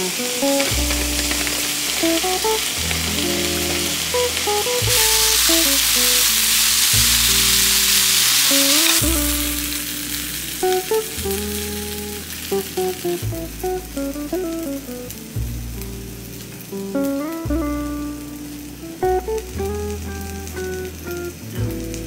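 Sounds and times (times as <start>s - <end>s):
background music: 0.0s - 22.0s
food sizzling in frying pan: 0.0s - 22.0s.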